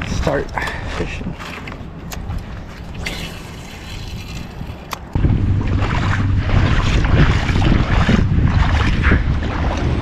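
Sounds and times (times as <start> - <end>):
shallow water washing: 0.0 - 10.0
wind buffeting microphone: 0.0 - 10.0.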